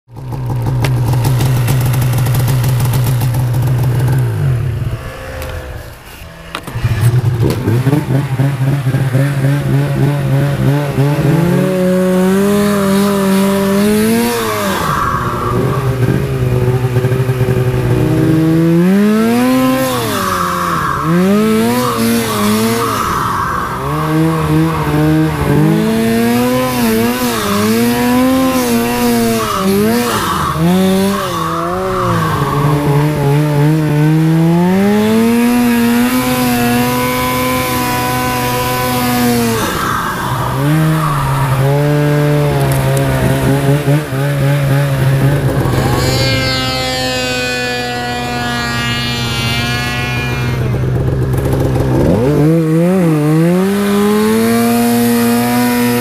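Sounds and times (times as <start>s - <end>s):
snowmobile engine revving: 0.1s - 56.0s.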